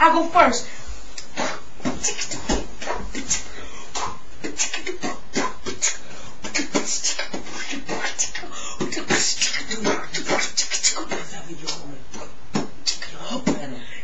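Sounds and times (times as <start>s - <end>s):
man beatboxing: 1.2s - 14.0s.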